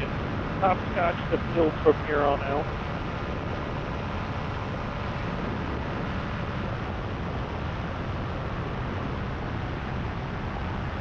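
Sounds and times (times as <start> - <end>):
paramotor engine drone: 0.0 - 11.0
wind on microphone: 0.0 - 11.0.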